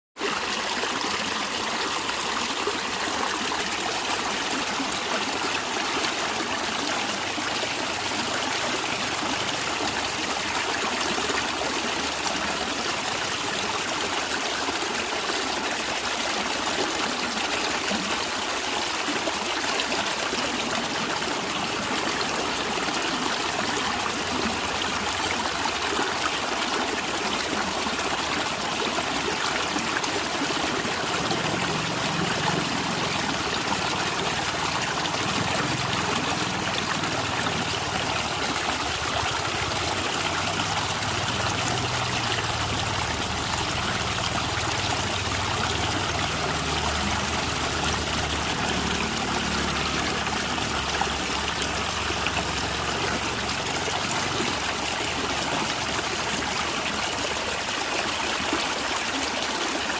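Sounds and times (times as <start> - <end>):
stream running and gurgling: 0.2 - 59.9.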